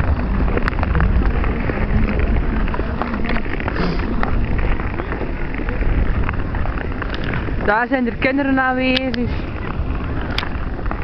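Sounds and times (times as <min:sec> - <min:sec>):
ice-skate blades scraping ice: 0:00.0 - 0:11.0
wind on microphone: 0:00.0 - 0:11.0.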